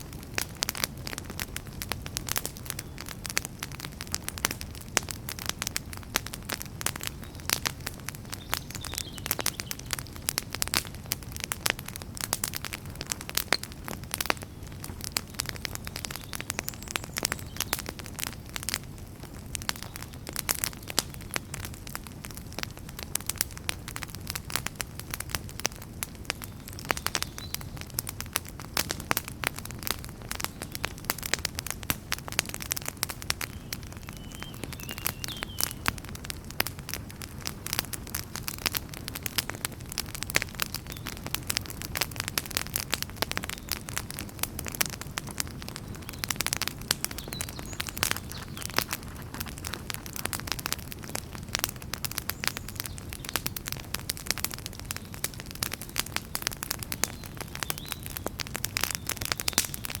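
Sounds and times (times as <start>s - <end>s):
logs crackling and popping: 0.0s - 60.0s
low rumble of flames: 0.0s - 60.0s.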